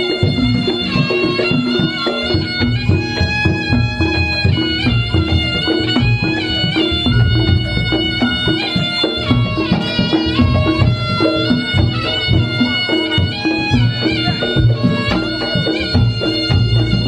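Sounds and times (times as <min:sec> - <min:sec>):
drums and gong strokes: 0:00.0 - 0:17.0
reedy wind instrument melody: 0:00.0 - 0:17.0.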